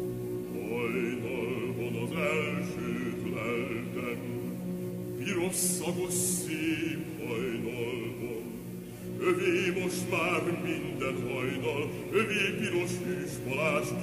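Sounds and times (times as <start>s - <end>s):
operatic voice singing: 0.5s - 14.0s.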